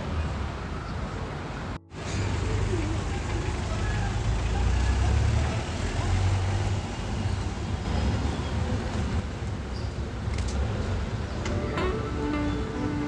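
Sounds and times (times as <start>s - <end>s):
city street traffic: 0.0s - 13.0s
road noise: 0.0s - 13.0s
vehicle engine rumble: 0.0s - 13.0s.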